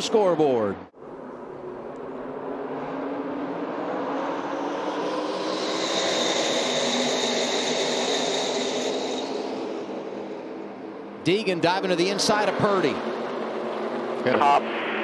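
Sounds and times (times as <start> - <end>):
high whine: 0.9 - 15.0
truck engines at full throttle: 1.0 - 14.6.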